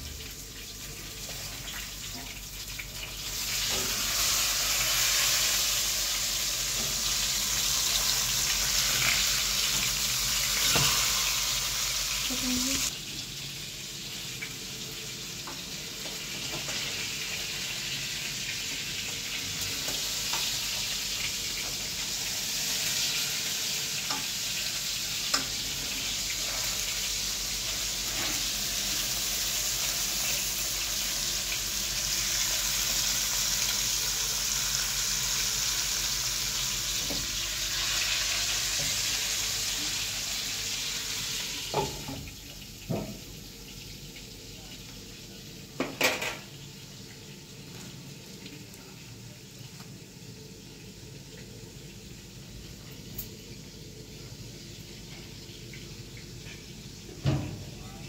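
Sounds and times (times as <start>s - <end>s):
fish sizzling in hot oil: 0.0s - 57.5s.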